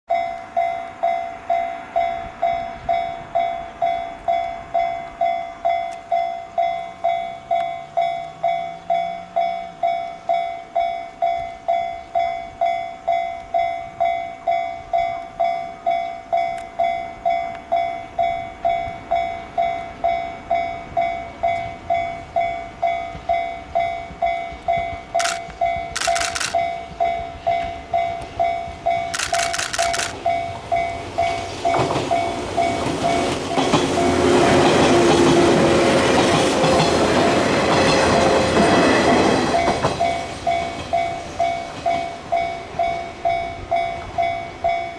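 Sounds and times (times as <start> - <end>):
level crossing warning bell: 0.1 - 33.8, 37.2 - 44.9
faint electric train approaching: 0.1 - 44.9.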